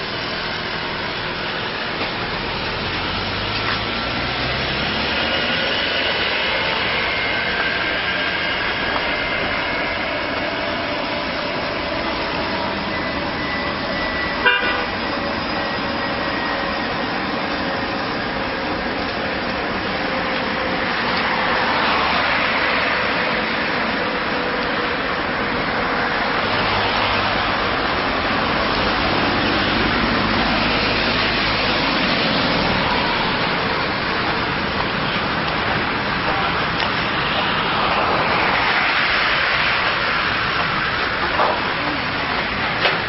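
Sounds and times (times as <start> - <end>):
cars passing on wet road: 0.0 - 43.0.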